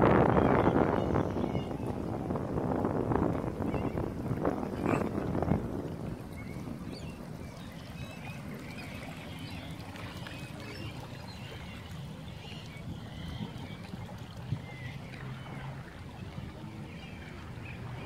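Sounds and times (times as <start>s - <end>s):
small waves lapping: 0.0s - 18.0s.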